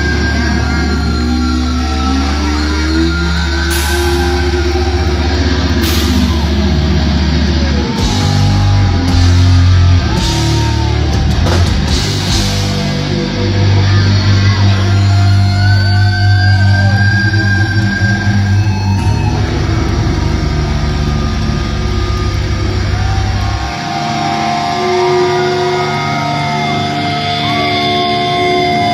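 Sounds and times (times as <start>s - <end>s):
death metal band playing live: 0.0s - 28.9s.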